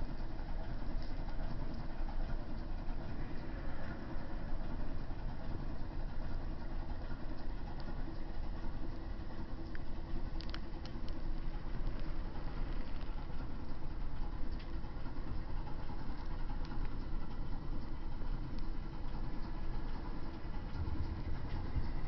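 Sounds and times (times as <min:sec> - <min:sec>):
faint ticks: 0:00.0 - 0:04.0, 0:04.6 - 0:22.0
faint hum: 0:00.0 - 0:22.0
low rumble of machinery: 0:00.0 - 0:22.0.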